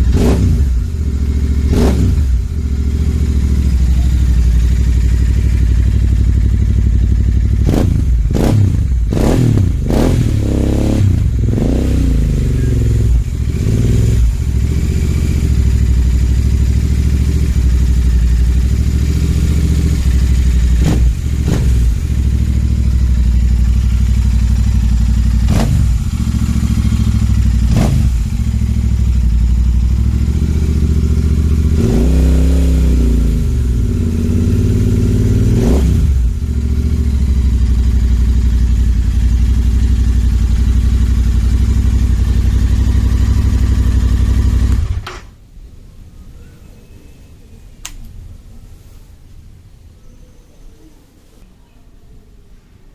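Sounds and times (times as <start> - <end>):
motorcycle engine idling and revving: 0.0 - 45.4.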